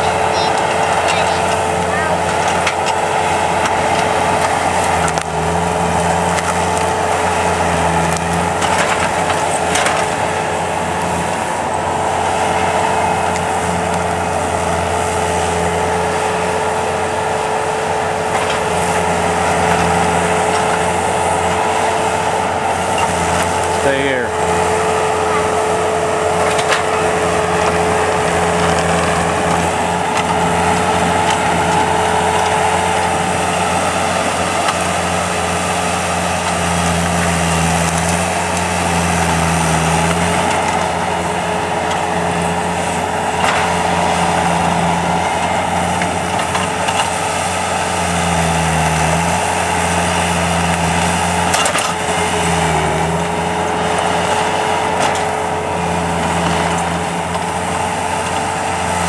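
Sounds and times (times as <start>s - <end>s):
skid loader engine running: 0.0s - 59.0s.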